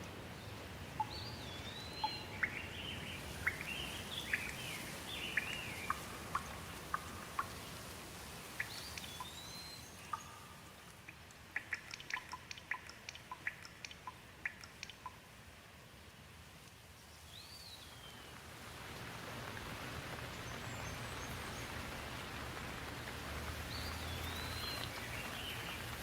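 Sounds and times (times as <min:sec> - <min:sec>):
sharp water drips: 0:00.0 - 0:15.8, 0:16.6 - 0:26.0
steady rain: 0:00.0 - 0:26.0
songbird singing: 0:00.3 - 0:15.3, 0:16.9 - 0:18.5, 0:20.2 - 0:26.0.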